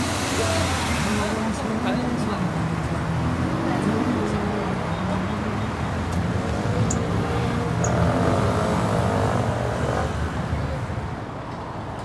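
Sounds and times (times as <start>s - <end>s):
vehicle passing close: 0.0s - 11.1s
cars driving: 0.0s - 12.0s.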